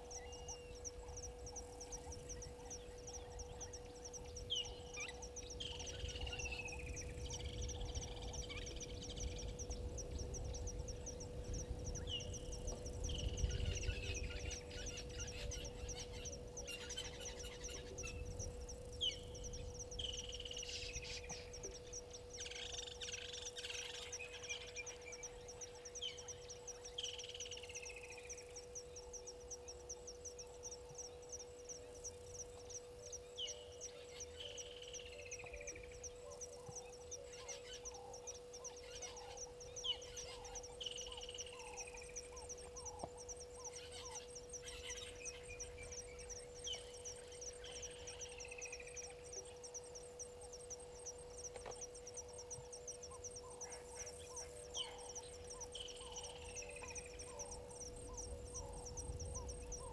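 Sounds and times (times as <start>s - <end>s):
insect trill: 0.0s - 59.9s
low steady hum: 0.0s - 59.9s.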